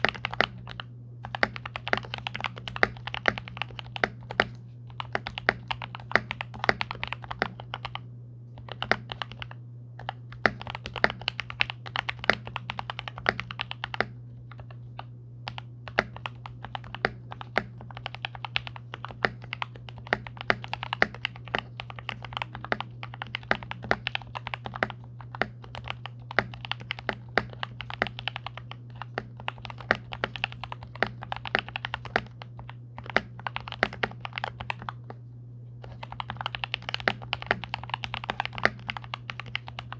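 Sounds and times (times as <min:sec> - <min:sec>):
mechanical keyboard typing: 0:00.0 - 0:08.0, 0:08.6 - 0:35.2, 0:35.8 - 0:39.9.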